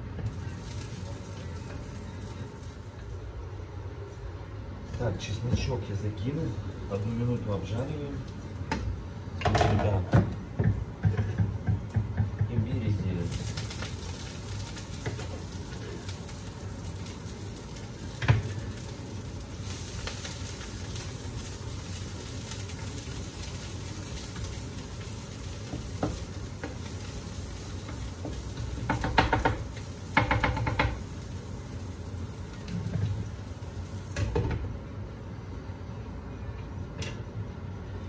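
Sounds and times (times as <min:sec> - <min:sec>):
food sizzling in a frying pan: 0:00.0 - 0:03.6, 0:05.2 - 0:35.1.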